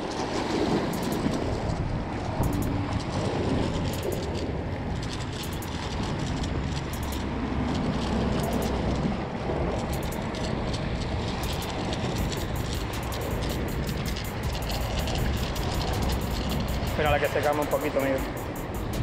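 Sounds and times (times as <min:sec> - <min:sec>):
steady low rumble: 0:00.0 - 0:19.0
waves splashing on rocks: 0:00.0 - 0:19.0.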